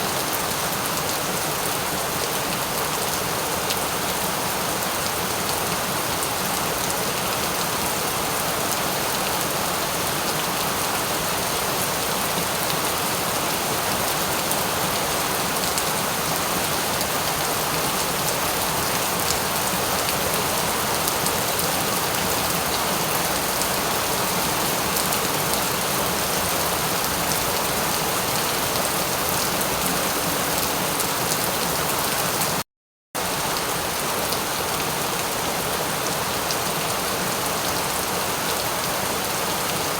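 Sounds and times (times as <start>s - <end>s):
rain pattering on a surface: 0.1s - 32.6s.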